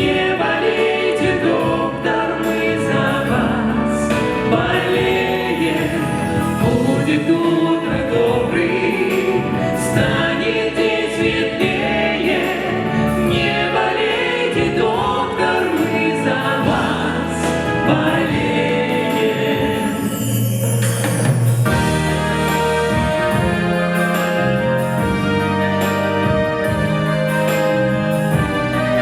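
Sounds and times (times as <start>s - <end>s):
choir singing with accompaniment: 0.0s - 29.0s.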